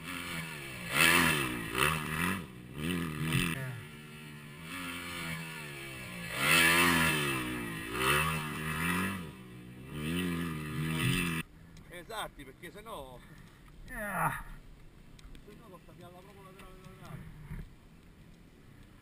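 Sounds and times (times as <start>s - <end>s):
dirt bike engines revving: 0.0s - 12.1s, 15.2s - 19.0s.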